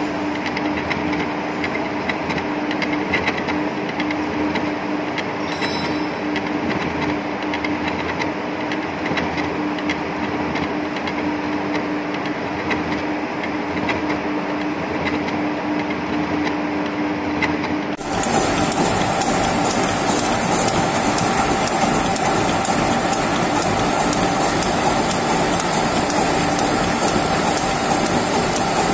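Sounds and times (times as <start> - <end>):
gear-cutting machine noise: 0.0 - 28.9
machine humming: 0.0 - 28.9.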